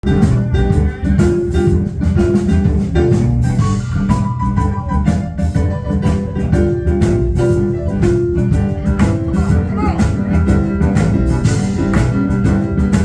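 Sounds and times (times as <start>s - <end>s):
bass line: 0.0s - 13.0s
drum kit steady beat: 0.0s - 13.0s.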